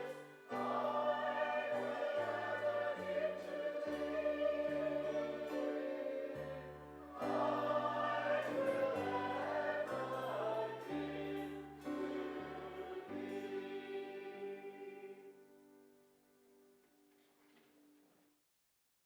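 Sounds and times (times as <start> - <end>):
choir singing a hymn: 0.0 - 15.4.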